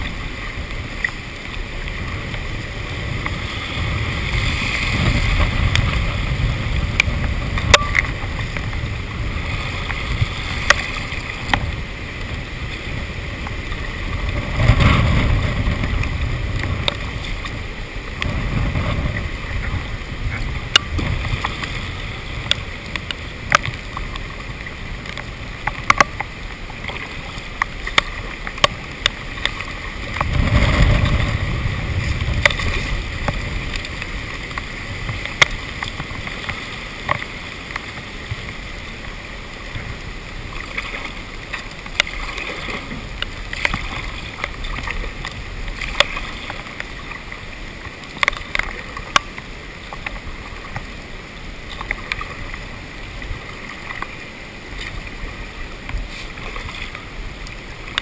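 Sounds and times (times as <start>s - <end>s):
muffled paddling and water: 0.0s - 58.0s.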